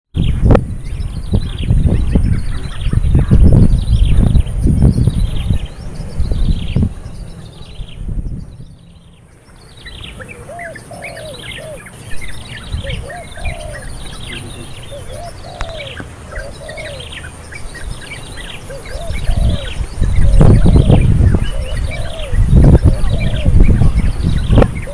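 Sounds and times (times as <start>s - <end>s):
birds chirping: 0.2s - 24.9s.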